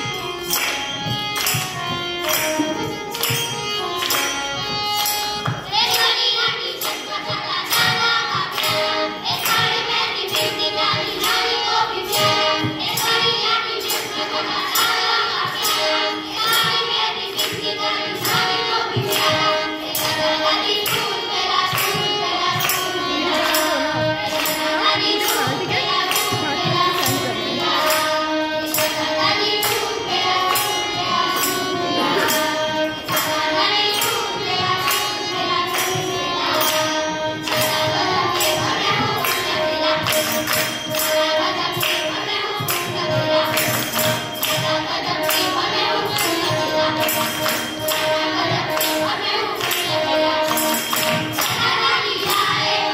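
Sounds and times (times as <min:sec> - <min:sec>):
children singing through pa: 0:00.0 - 0:52.9
harmonium: 0:00.0 - 0:52.9
tambourine jingling: 0:00.0 - 0:52.9.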